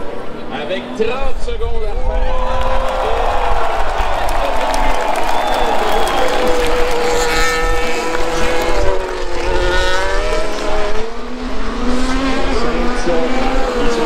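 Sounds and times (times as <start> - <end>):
racing car engines passing: 2.3 - 14.0.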